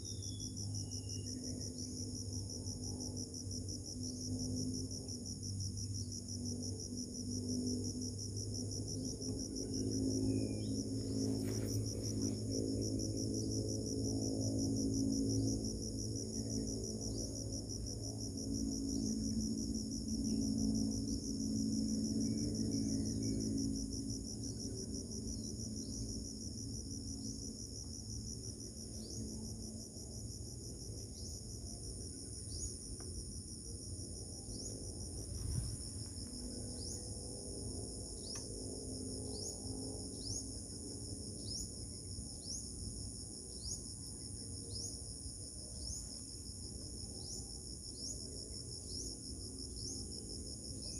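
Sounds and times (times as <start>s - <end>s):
insect chirps: 0.0s - 50.9s
insects trilling: 0.0s - 50.9s
low steady hum: 0.0s - 50.9s.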